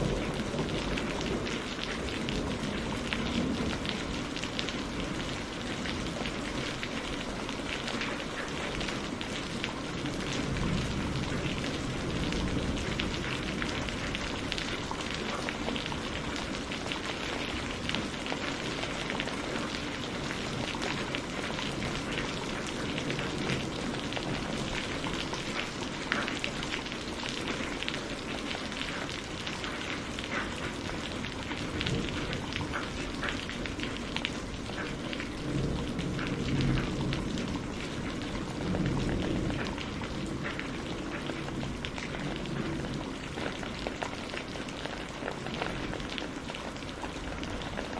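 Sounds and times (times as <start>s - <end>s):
rain pattering on hard surfaces: 0.0s - 47.9s.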